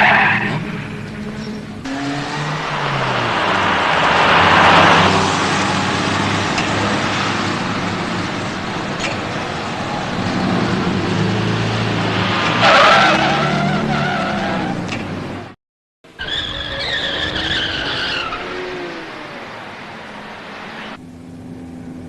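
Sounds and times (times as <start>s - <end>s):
tire squeal: 0.0s - 15.1s, 16.1s - 21.0s
car engine running hard: 0.0s - 22.0s
tire and road noise: 0.0s - 22.0s.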